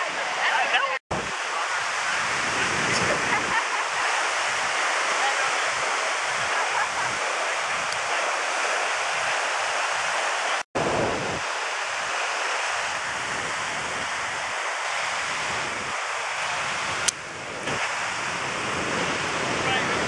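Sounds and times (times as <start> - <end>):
ocean surf breaking on beach: 0.0 - 20.0
wind gusts on microphone: 0.0 - 20.0.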